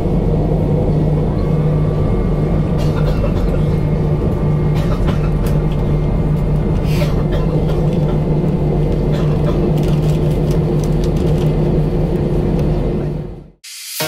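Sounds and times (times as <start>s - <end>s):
aircraft cabin drone: 0.0s - 13.6s.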